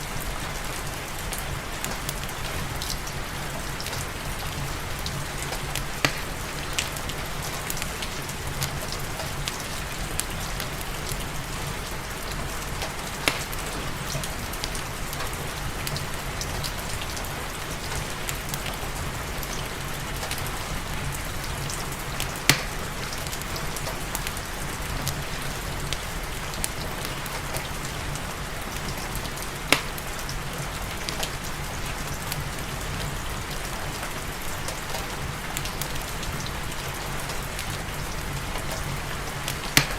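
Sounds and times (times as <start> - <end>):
steady rain: 0.0 - 39.9
wood fire crackling and popping: 0.1 - 39.9.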